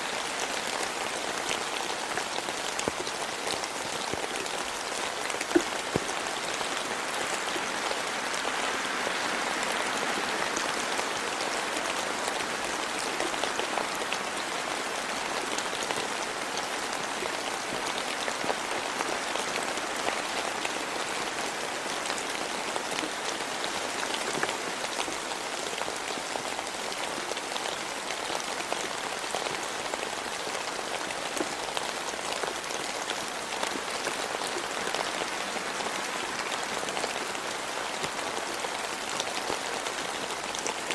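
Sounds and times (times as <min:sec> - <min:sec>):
rain hissing in forest: 0:00.0 - 0:40.9.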